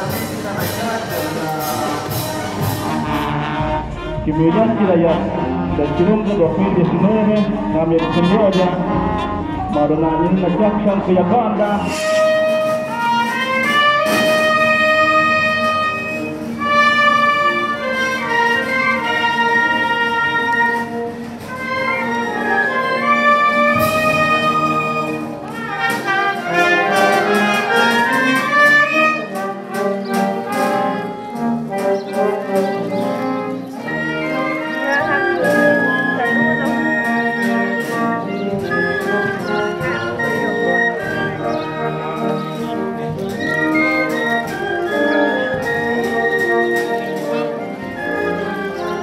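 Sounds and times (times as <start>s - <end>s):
wind band playing melody: 0.0s - 49.0s.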